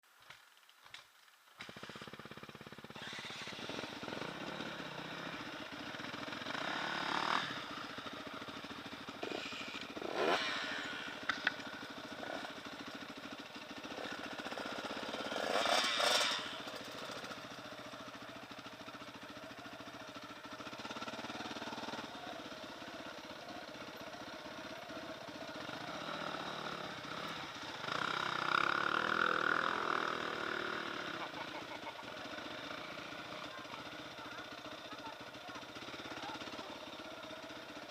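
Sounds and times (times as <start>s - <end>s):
motorcycle engine running: 1.5s - 37.9s.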